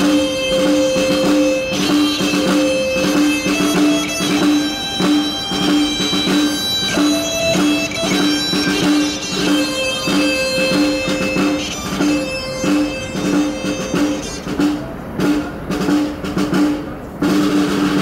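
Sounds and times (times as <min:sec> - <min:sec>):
electric guitar melody: 0:00.0 - 0:14.4.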